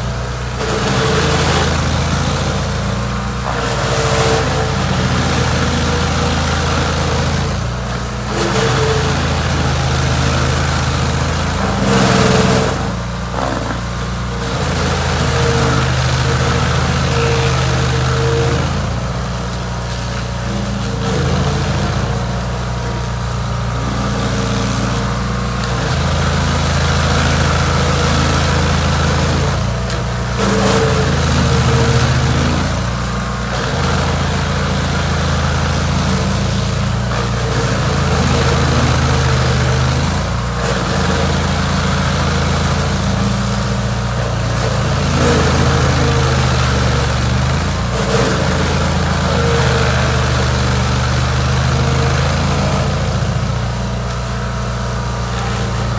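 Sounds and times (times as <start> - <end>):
chainsaw sawing log: 0.0 - 55.9.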